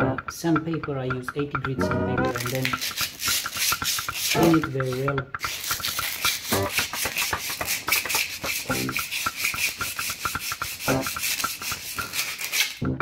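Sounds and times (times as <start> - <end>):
sandpaper rasping on steel rod: 2.3 - 12.8.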